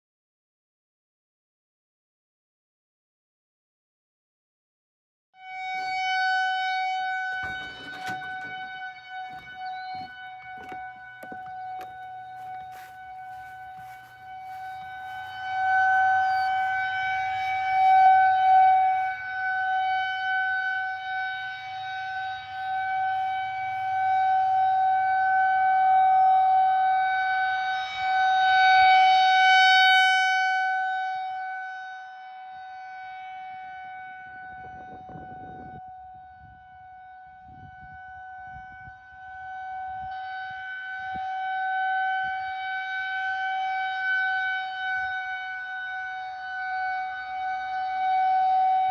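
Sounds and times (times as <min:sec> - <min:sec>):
rotating warning siren steady tone: 0:05.4 - 0:48.9.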